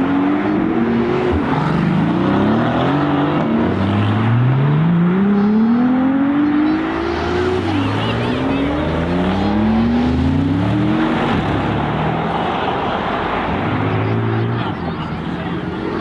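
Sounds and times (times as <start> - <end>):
sports car engine accelerating: 0.0 - 16.0.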